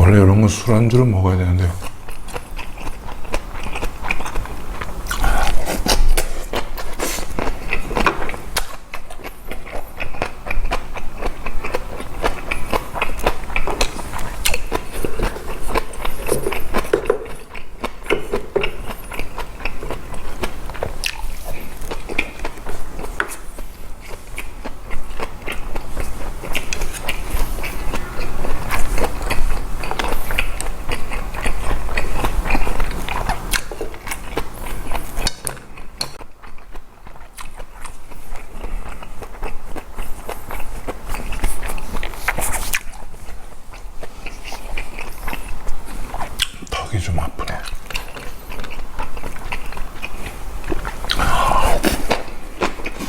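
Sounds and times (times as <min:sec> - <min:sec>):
chewing and mouth sounds: 0:01.6 - 0:53.0.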